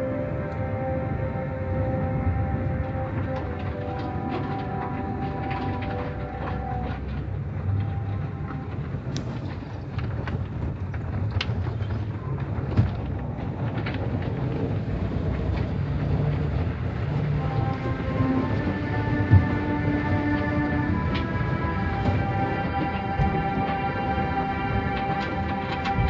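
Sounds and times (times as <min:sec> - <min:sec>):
car wash machinery rumbling: 0:00.0 - 0:26.0.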